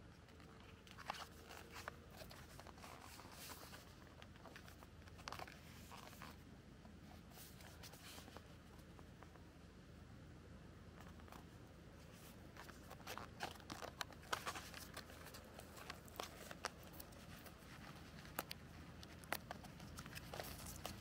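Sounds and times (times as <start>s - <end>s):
faint rustling: 0.0s - 9.6s, 10.7s - 21.0s.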